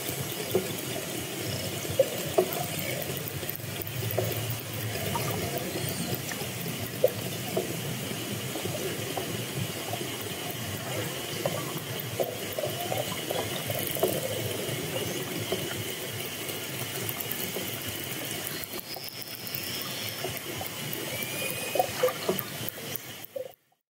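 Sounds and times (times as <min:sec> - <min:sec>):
underwater water rush: 0:00.0 - 0:23.6.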